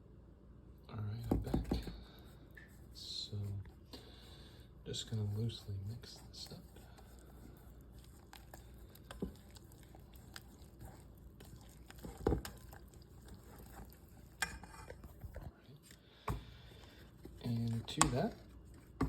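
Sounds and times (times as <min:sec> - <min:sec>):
utensil stirring batter in a bowl: 0:01.1 - 0:19.0.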